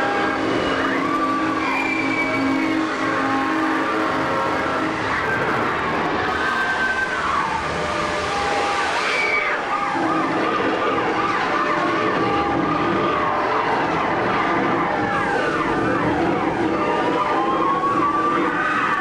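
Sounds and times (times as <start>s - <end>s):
emergency sirens wailing: 0.0s - 19.0s
loud dense din: 0.0s - 19.0s.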